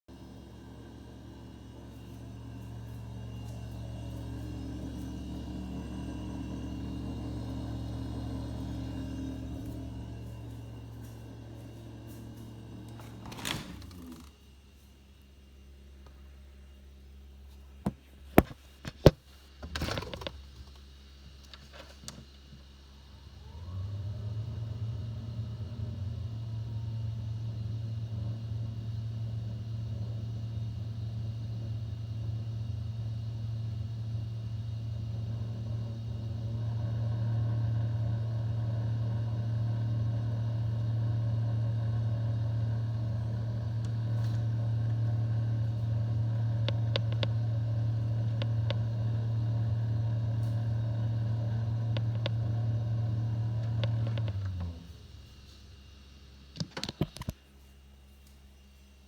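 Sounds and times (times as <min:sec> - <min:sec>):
refrigerator humming with rattling buzz: 0:00.1 - 0:59.0.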